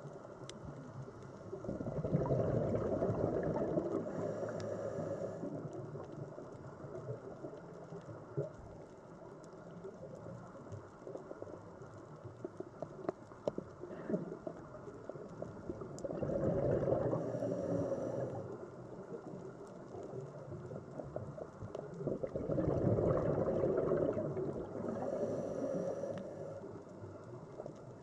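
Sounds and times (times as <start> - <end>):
crackle of small clicks: 0.0 - 28.0
regulator bubbles underwater: 0.0 - 28.0.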